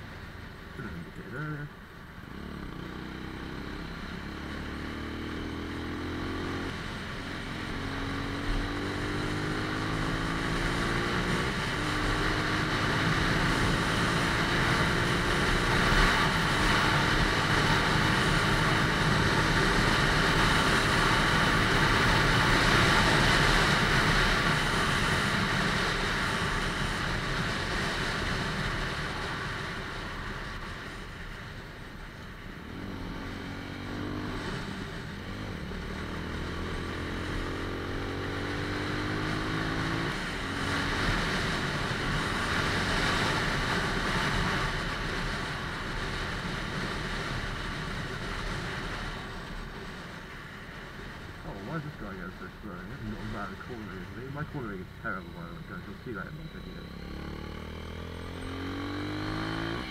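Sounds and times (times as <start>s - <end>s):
road noise: 0.0s - 59.9s
motorcycle engine accelerating: 0.8s - 59.9s.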